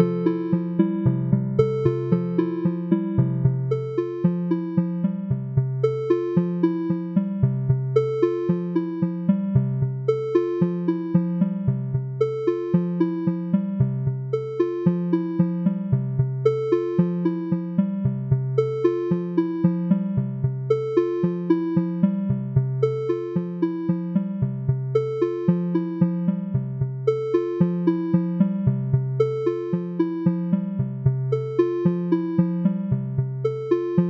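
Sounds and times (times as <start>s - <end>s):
looping keyboard music: 0.0s - 34.0s.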